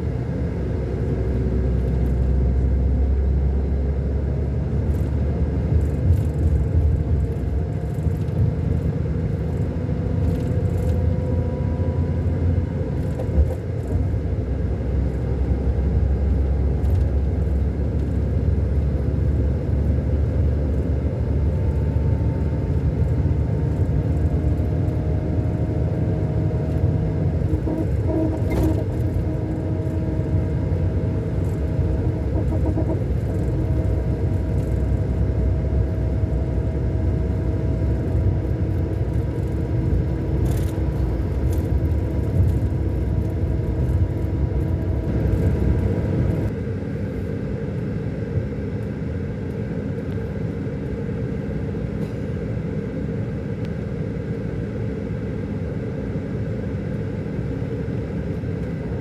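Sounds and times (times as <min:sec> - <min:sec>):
diesel coach engine rumbling: 0:00.0 - 0:59.0.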